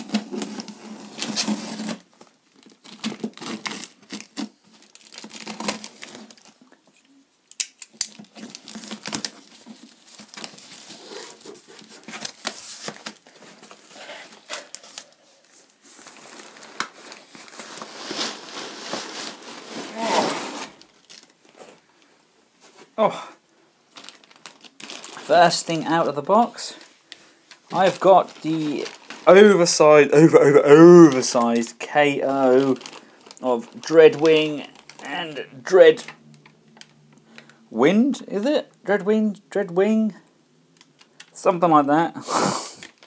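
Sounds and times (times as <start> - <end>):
foam sheets crinkling: 0.0 - 7.0, 7.9 - 23.0, 23.9 - 38.7, 42.3 - 43.0.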